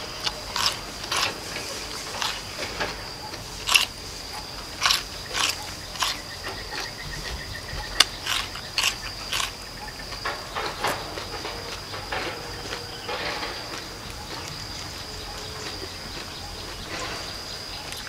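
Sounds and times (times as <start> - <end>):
crisp vegetable crunching: 0.0 - 18.0.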